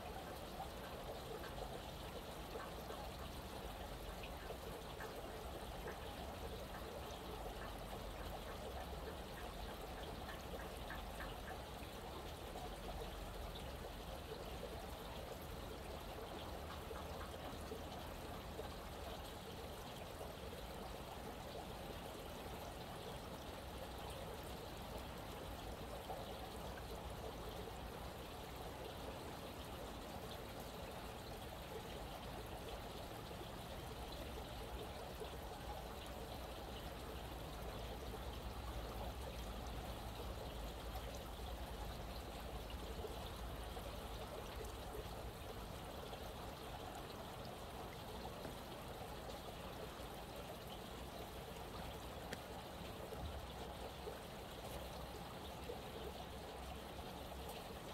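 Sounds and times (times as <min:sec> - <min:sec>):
stream trickling: 0:00.0 - 0:57.9.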